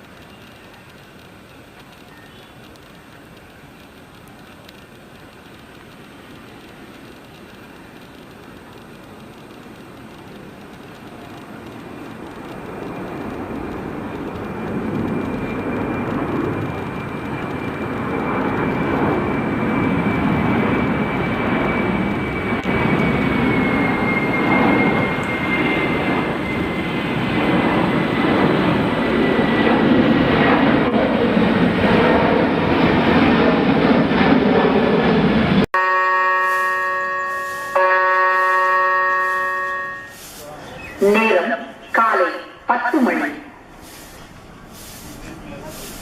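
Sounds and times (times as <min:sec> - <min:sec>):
jet engines roaring and whining: 0:00.0 - 0:46.0.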